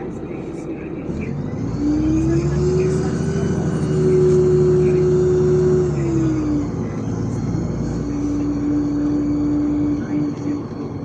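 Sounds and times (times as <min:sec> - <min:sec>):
bus engine drone and whine: 0:00.0 - 0:11.0.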